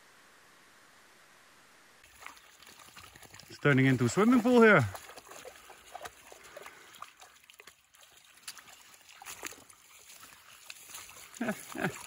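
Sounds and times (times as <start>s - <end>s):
footstep splashes: 2.0s - 12.0s
wading through shallow water: 2.0s - 12.0s.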